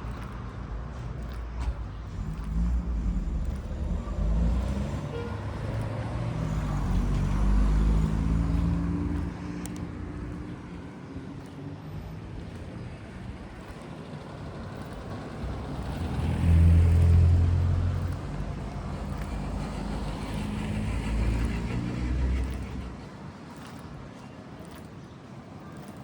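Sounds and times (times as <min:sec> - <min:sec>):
vehicle driving past: 0:00.9 - 0:11.0, 0:11.7 - 0:23.1.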